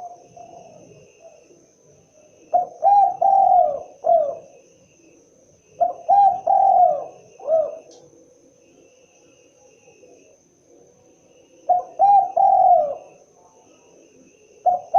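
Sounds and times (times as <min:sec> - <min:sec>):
dove cooing: 0:00.0 - 0:01.6, 0:02.3 - 0:08.6, 0:10.0 - 0:14.9.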